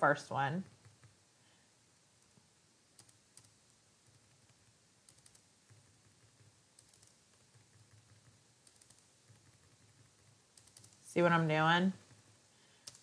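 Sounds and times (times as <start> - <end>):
faint keyboard typing: 0.5 - 1.2, 2.2 - 13.0.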